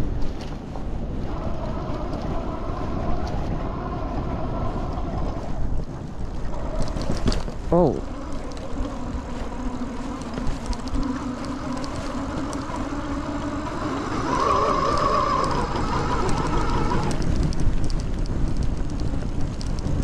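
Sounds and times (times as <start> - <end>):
electric bike motor hum: 0.0 - 20.0
tyres on road: 0.0 - 20.0
wind noise: 0.0 - 20.0.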